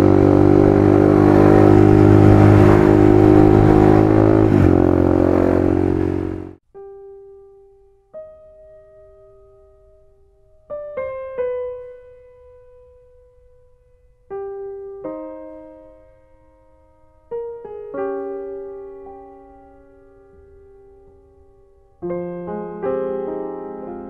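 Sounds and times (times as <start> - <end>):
slow piano piece: 0.0 - 24.0.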